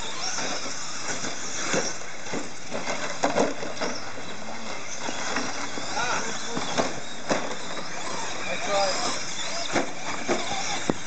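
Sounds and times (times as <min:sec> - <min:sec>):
radio-controlled trucks running: 0:00.0 - 0:11.0.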